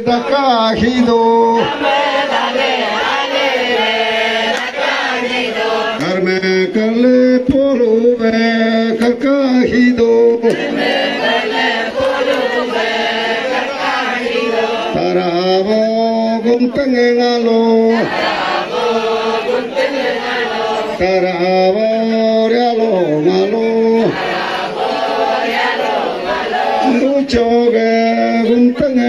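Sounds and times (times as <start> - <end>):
group chanting together: 0.0 - 6.8, 10.0 - 15.8, 17.4 - 28.5.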